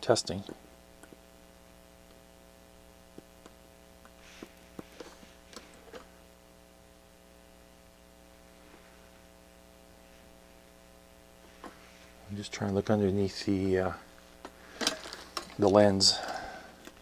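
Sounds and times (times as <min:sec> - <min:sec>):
low mains hum: 0:00.0 - 0:17.0.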